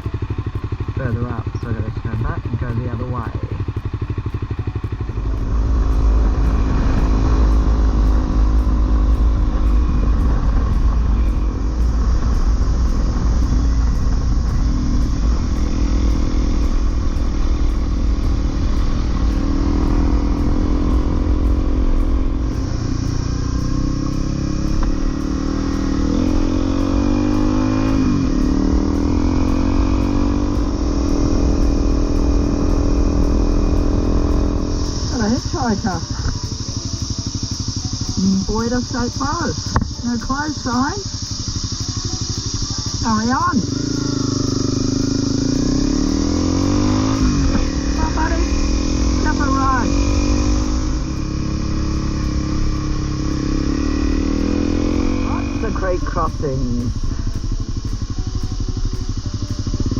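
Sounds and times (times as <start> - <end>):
motorcycle engine revving: 0.0 - 59.9
wind rumble: 0.0 - 59.9.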